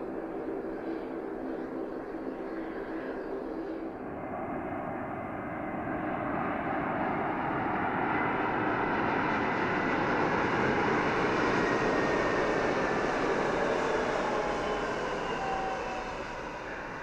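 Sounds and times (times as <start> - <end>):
jet airliner passing low: 0.0 - 17.0.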